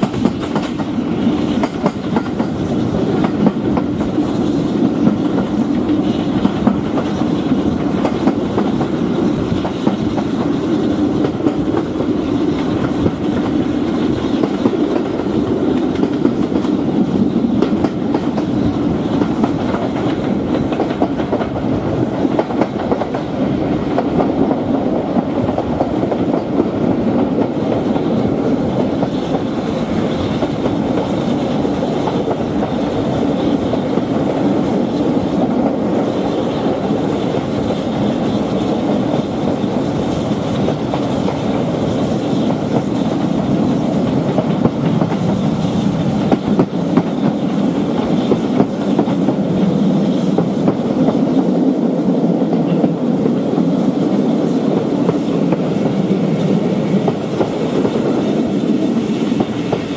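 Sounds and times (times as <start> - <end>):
train wheels clattering over rail joints: 0.0 - 51.6, 52.5 - 59.9.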